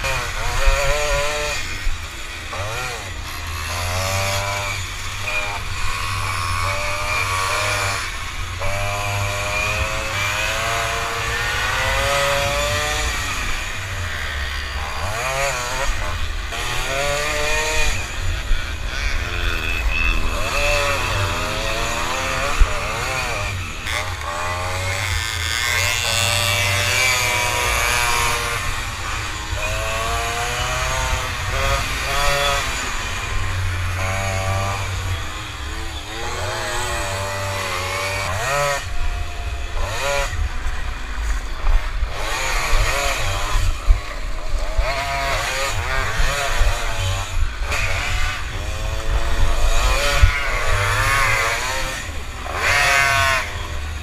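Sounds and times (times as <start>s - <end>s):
moped engines revving: 0.0s - 54.0s.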